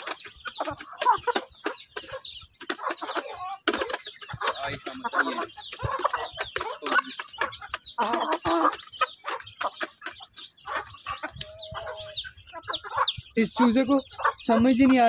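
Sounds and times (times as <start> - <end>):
beaks pecking at grain: 0.0 - 15.0
hens clucking: 0.0 - 15.0.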